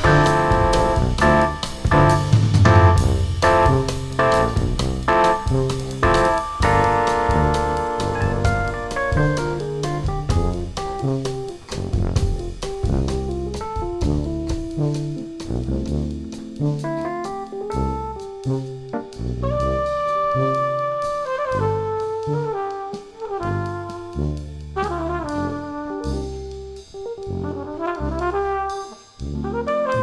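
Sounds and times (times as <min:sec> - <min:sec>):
instrumental jazz band: 0:00.0 - 0:30.0.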